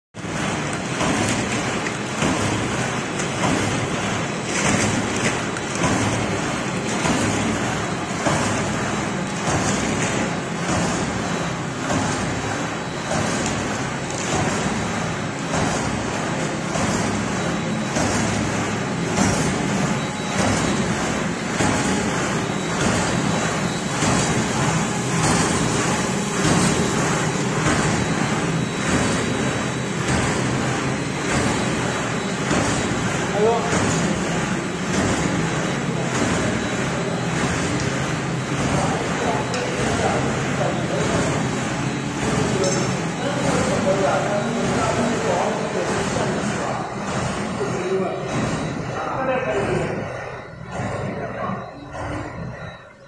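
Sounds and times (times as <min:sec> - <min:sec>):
paper straw machine running: 0:00.2 - 0:51.3.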